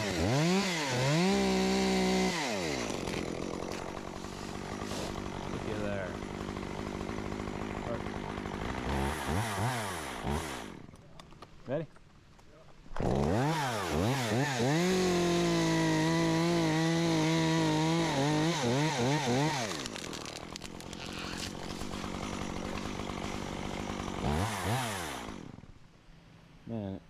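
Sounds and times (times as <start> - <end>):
chainsaw revving and cutting: 0.0 - 10.9, 12.9 - 25.7.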